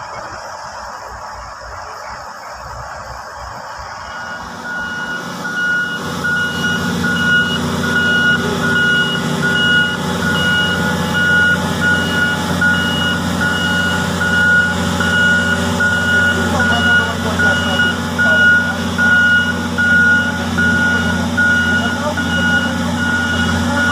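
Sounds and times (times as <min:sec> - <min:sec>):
diesel engine drone: 0:00.0 - 0:23.9
backup alarm beeping: 0:03.8 - 0:23.9.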